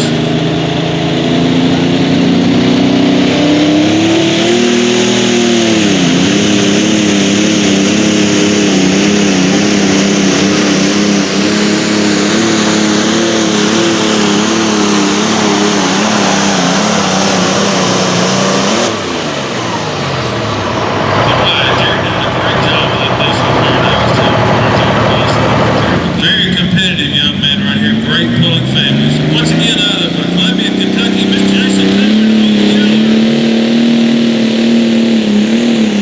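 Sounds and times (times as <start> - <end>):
tractor engine under load: 0.0 - 36.0.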